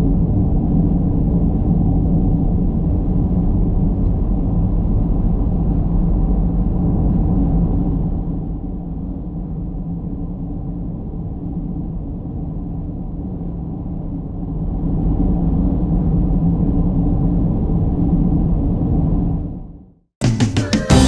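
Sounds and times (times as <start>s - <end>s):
low rumbling noise: 0.0s - 19.4s.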